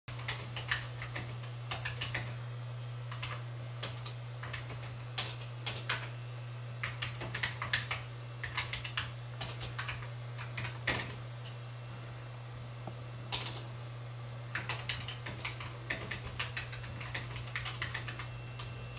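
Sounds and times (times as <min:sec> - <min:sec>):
low electrical hum: 0:00.1 - 0:18.9.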